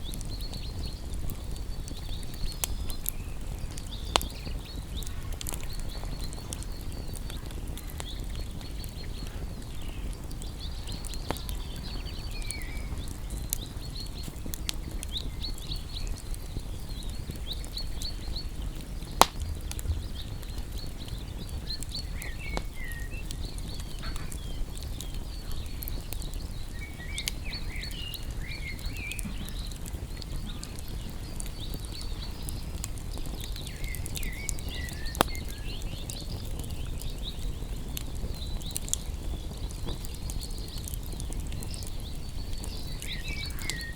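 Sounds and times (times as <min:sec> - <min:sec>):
campfire crackling: 0:00.0 - 0:43.9
sharp fire pops: 0:00.0 - 0:43.9.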